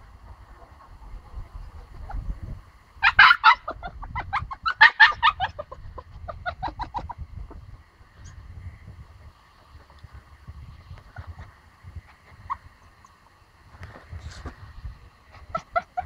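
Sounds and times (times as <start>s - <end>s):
chicken clucking: 0.5s - 8.4s, 9.0s - 13.3s, 15.3s - 16.0s.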